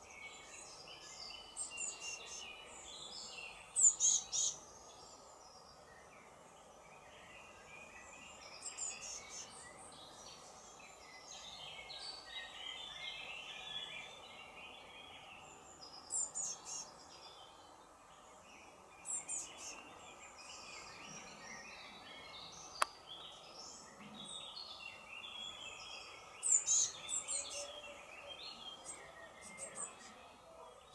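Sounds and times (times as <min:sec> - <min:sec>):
soft bird chatter: 0:00.0 - 0:30.9.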